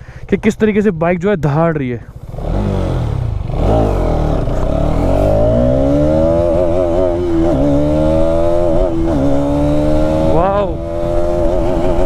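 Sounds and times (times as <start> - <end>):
motorcycle engine under throttle: 2.2 - 12.0.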